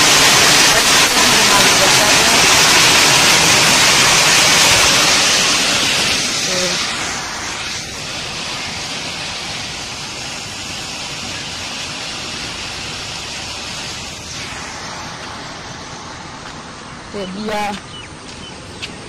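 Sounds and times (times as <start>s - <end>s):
water rushing through outlet: 0.0s - 19.0s.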